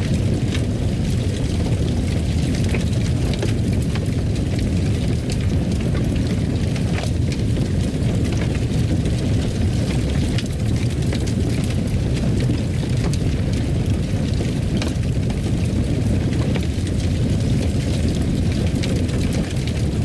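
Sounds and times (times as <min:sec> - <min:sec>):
fire crackling and popping: 0:00.0 - 0:20.0
fire roaring: 0:00.0 - 0:20.0.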